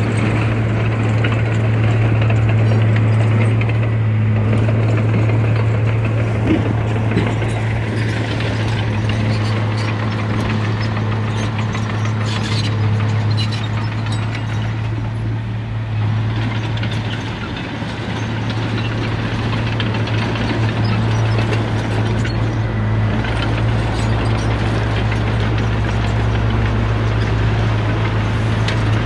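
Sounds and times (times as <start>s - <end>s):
engine rattle: 0.0s - 29.0s
heavy diesel engine running: 0.0s - 29.0s.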